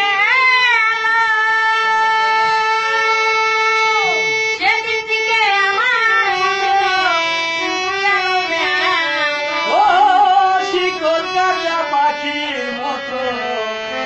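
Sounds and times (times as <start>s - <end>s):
violin playing slow melody: 1.7s - 14.0s.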